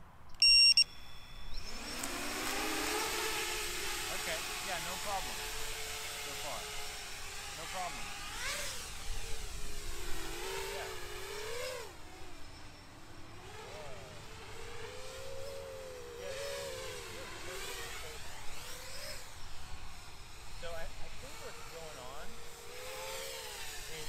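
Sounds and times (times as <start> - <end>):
quadcopter motors whining: 0.3 - 24.0.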